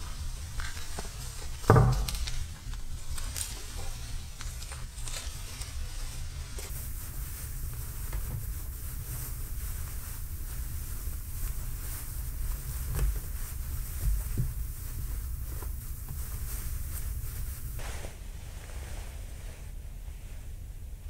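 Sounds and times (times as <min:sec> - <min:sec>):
cloth rustling on table: 0:00.0 - 0:19.8.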